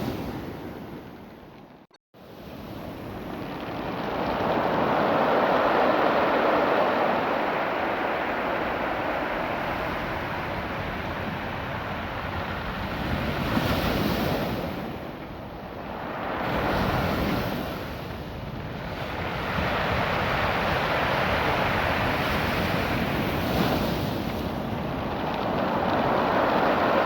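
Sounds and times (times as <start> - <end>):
wind buffeting microphone: 0.0 - 27.0
surf washing over pebbles: 2.4 - 27.0.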